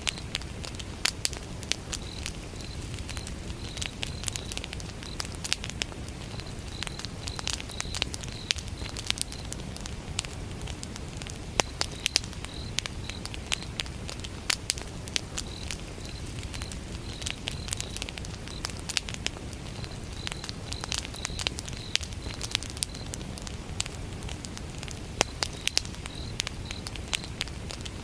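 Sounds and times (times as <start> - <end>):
crickets chirping: 0.0 - 28.0
wood fire crackling: 0.0 - 28.0.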